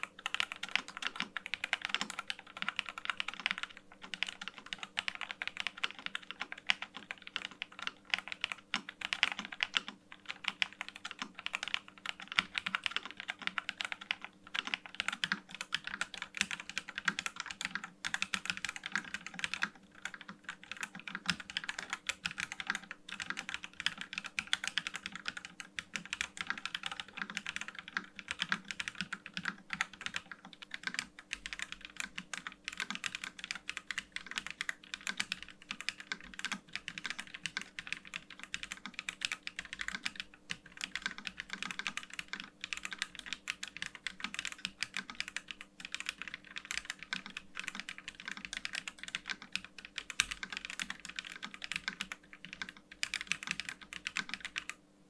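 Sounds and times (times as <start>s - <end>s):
fast mechanical keyboard typing: 0.0s - 54.8s.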